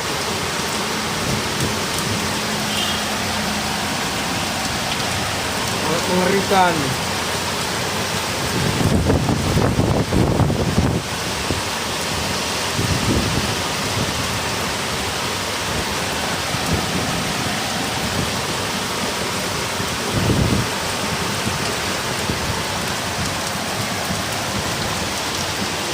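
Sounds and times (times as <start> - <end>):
wind rumbling: 0.0 - 5.9, 6.5 - 25.9
heavy rain pouring: 0.0 - 25.9.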